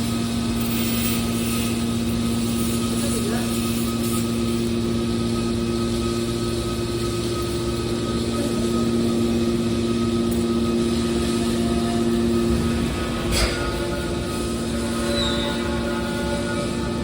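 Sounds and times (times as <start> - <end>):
hydraulic machine hum: 0.0 - 17.0.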